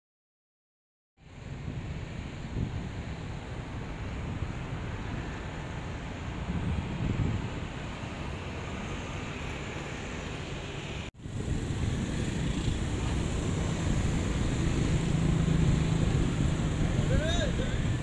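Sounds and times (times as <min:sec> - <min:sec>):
distant traffic rumble: 0:01.2 - 0:18.0
wind on microphone: 0:01.2 - 0:18.0.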